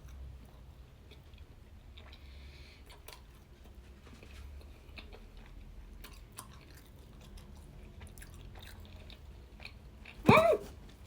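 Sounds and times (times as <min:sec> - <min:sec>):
close chewing of pastry: 0:00.0 - 0:11.0.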